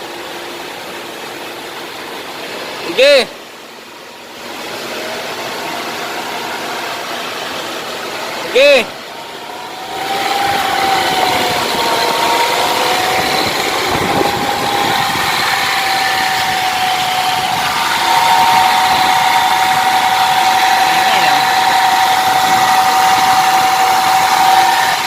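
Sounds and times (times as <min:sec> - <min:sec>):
drivetrain hum and whine: 0:00.0 - 0:25.0.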